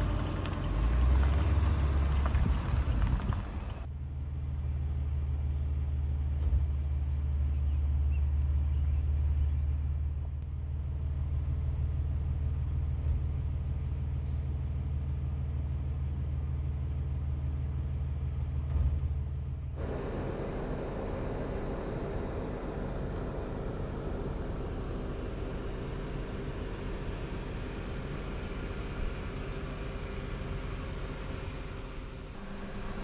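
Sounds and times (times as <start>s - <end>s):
car interior rumble: 0.0s - 33.0s.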